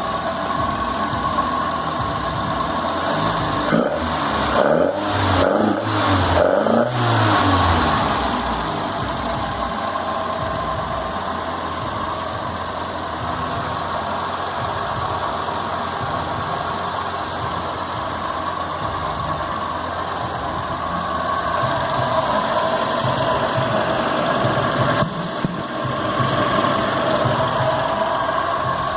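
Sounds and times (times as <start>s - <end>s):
car engine revving and idling: 0.0s - 28.9s.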